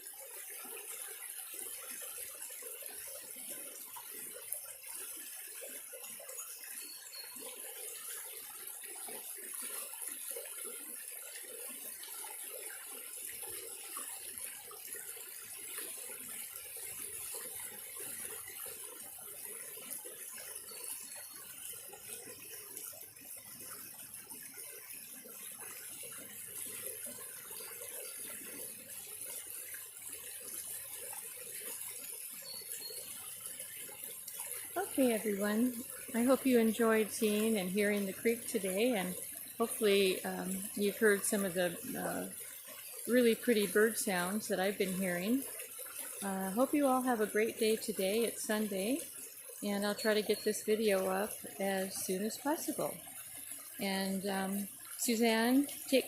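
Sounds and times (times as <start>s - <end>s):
creek water running: 0.0s - 56.0s.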